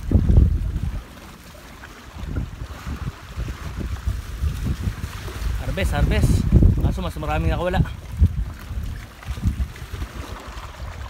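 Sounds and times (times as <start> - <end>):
sea waves on rocks: 0.0 - 11.0
wind buffeting microphone: 0.0 - 11.0.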